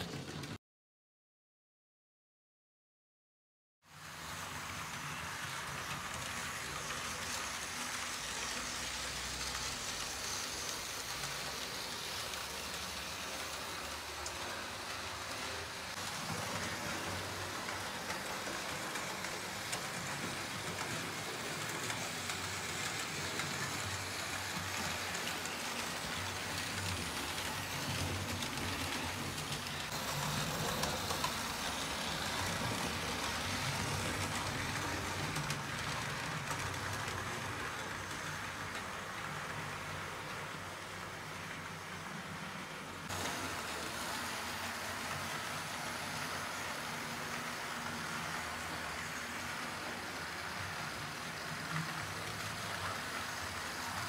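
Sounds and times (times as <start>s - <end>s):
model trains rolling on track: 0.0s - 0.6s, 3.9s - 54.0s.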